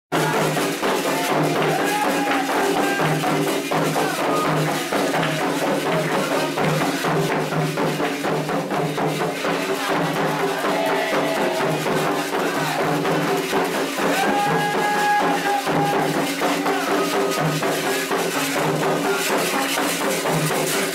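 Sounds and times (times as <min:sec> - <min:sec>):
voices singing held notes: 0:00.1 - 0:07.5, 0:08.9 - 0:20.9
hand drums: 0:00.1 - 0:20.9
rattling percussion: 0:00.1 - 0:20.9.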